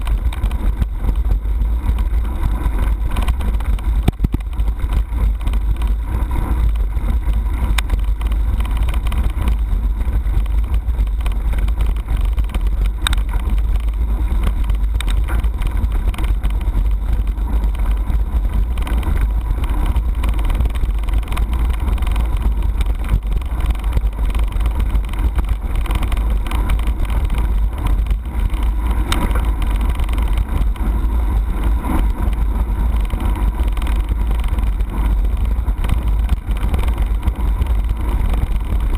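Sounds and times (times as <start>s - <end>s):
road vibration: 0.0s - 38.9s.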